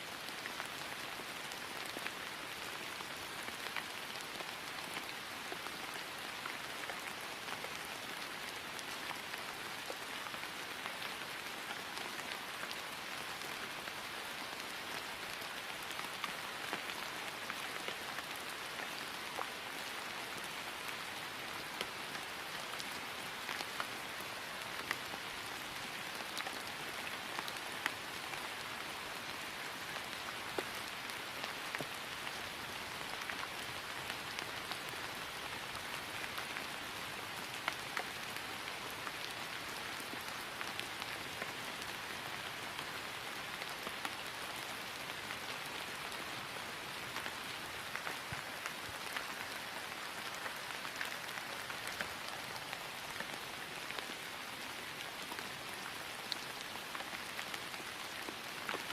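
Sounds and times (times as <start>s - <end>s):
rain falling on grass: 0.0s - 58.9s.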